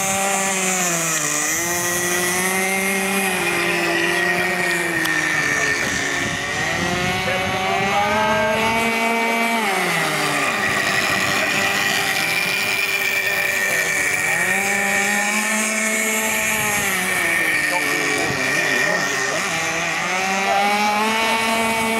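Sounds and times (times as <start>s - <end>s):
model boat engine high whine: 0.0s - 21.9s.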